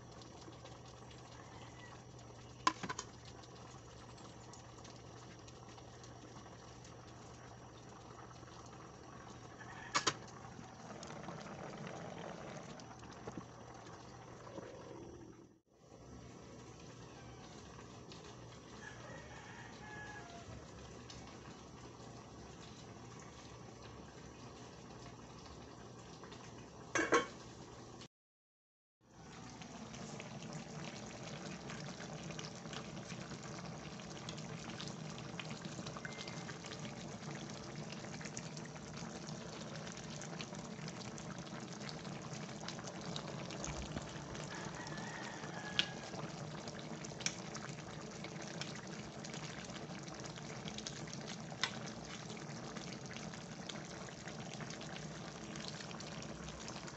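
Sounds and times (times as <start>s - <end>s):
coconut milk bubbling in a wok: 0.0s - 28.1s, 29.0s - 56.9s.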